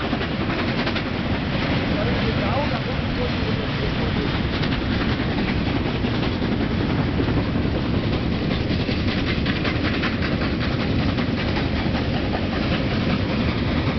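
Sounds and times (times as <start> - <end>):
steam locomotive exhaust beat: 0.0 - 13.9
train rumble: 0.0 - 13.9.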